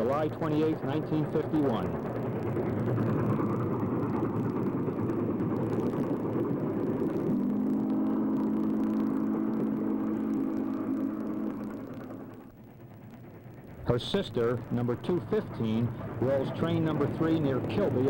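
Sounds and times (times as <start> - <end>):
steam train rumble: 0.0 - 18.0.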